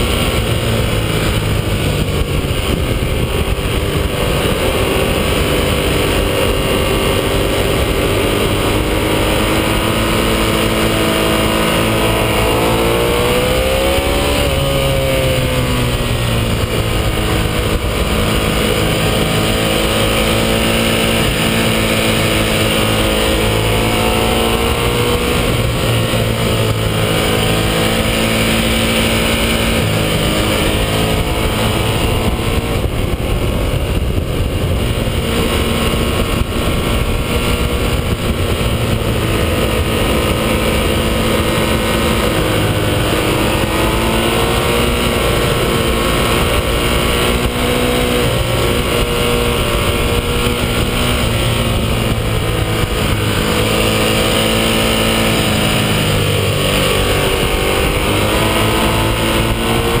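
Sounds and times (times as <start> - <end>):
motorcycle engine revving: 0.0 - 60.0
wind rush: 0.0 - 60.0.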